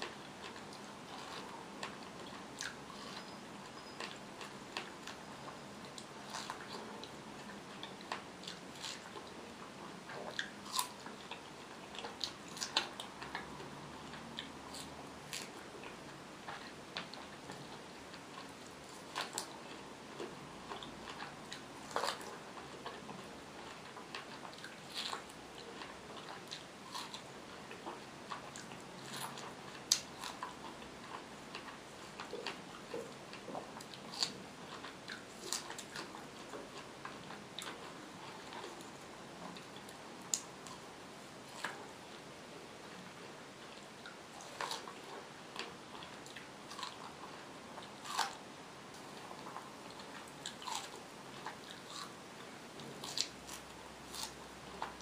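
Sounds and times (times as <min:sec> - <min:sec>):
chewing crunches: 0:05.9 - 0:09.4, 0:10.1 - 0:42.0, 0:43.6 - 0:55.0.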